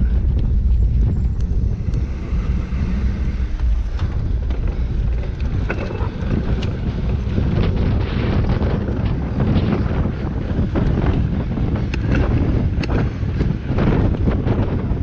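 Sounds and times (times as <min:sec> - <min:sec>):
dirt bike engine roar: 0:00.0 - 0:15.0
wind buffeting microphone: 0:00.0 - 0:15.0.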